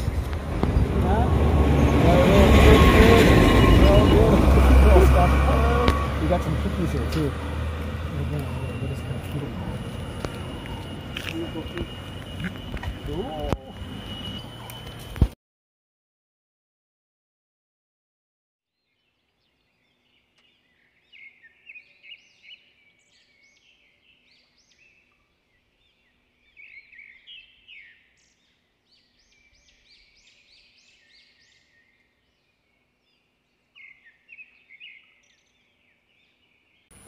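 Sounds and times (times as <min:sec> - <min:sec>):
wild birds chirping: 0:00.0 - 0:15.2, 0:18.7 - 0:37.0.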